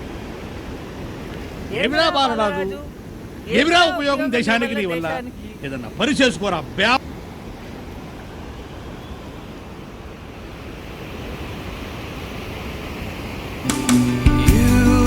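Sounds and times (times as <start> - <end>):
water rushing through dam: 0.0 - 14.4.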